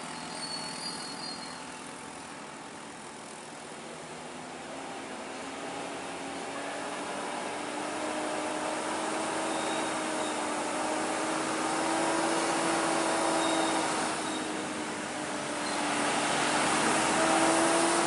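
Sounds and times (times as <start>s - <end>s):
traffic noise: 0.0s - 18.0s
truck diesel engine hum: 0.0s - 18.0s.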